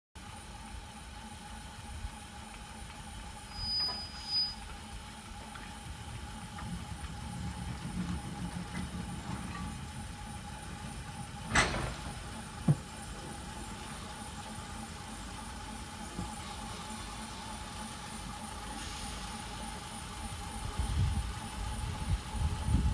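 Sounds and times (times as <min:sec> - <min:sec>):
crane car humming and rumbling: 0:00.2 - 0:22.9.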